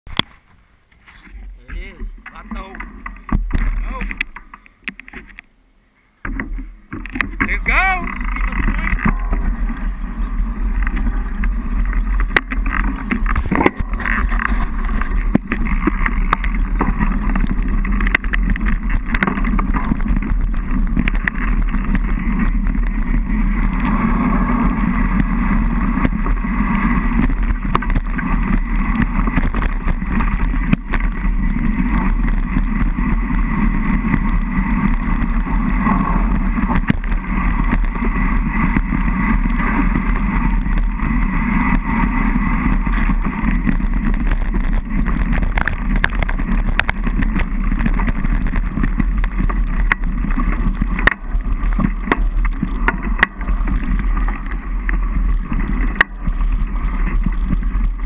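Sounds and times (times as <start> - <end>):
dirt bike engine running: 6.4 - 58.0.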